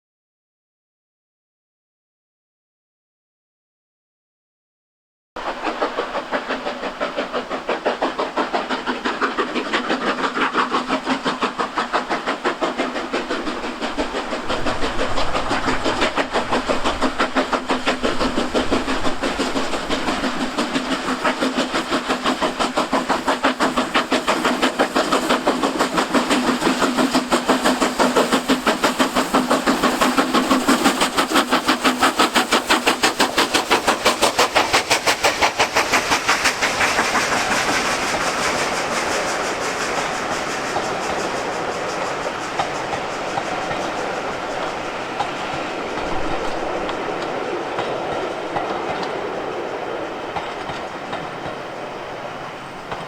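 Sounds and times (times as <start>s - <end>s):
steam hiss: 5.4s - 53.0s
steam locomotive exhaust beats: 5.4s - 53.0s.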